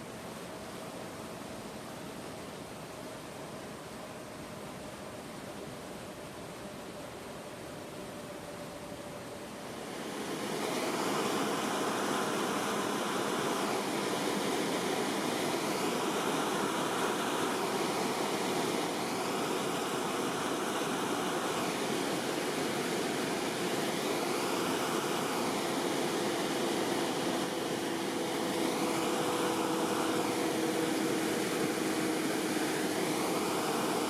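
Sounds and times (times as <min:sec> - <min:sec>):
water rushing from weir: 0:00.0 - 0:34.0.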